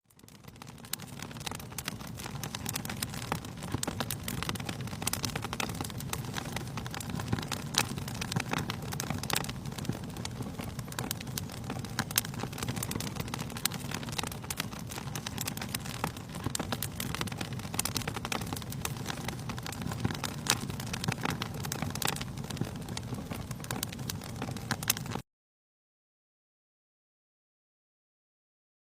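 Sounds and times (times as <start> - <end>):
fire crackling in a fireplace: 0.0 - 25.2.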